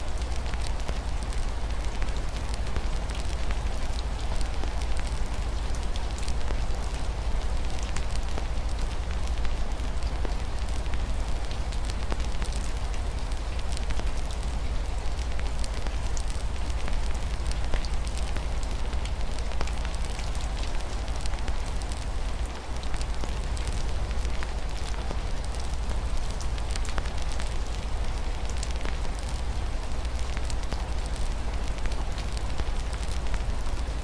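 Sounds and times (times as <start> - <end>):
rain against a window: 0.0 - 34.0
wood fire crackling: 0.0 - 34.0.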